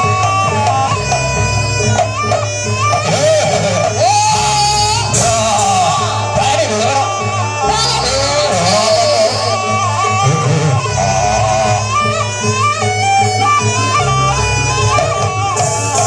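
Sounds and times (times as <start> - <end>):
drums: 0.0 - 16.0
shrill reed pipe melody: 0.0 - 16.0.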